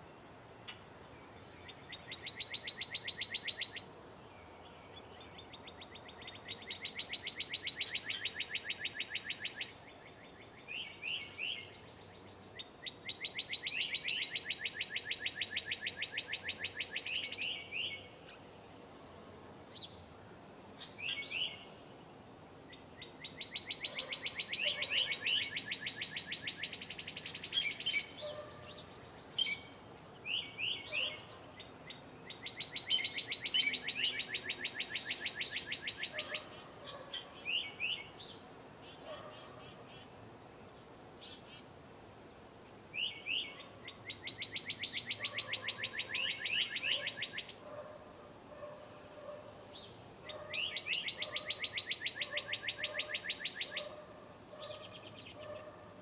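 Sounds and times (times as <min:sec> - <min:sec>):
songbird singing fast trill: 0:00.4 - 0:18.9, 0:20.8 - 0:47.9, 0:48.8 - 0:55.7.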